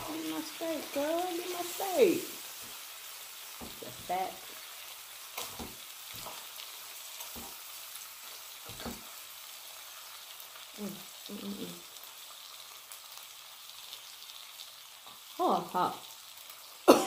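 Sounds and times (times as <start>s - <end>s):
food sizzling on griddle: 0.0s - 17.0s.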